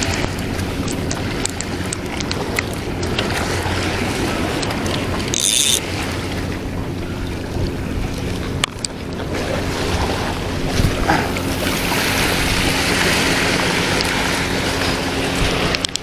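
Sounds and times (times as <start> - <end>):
low motor hum: 0.0 - 16.0
water washing: 0.0 - 16.0
wind on microphone: 0.0 - 16.0.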